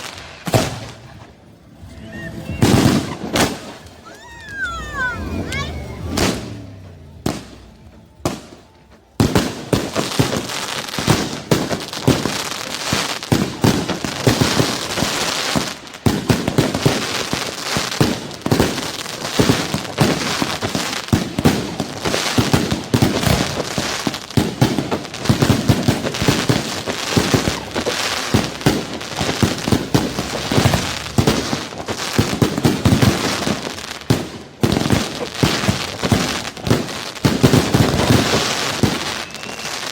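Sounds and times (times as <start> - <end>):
dense crackle of sharp pops: 7.2 - 39.9.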